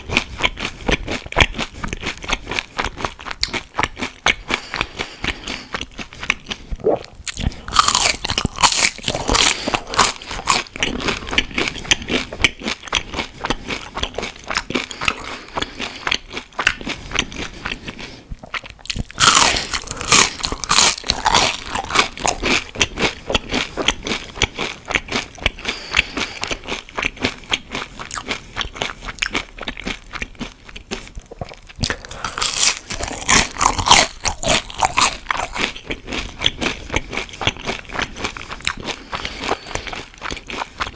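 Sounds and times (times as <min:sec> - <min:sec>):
crunchy biting and chewing: 0:00.0 - 0:40.9.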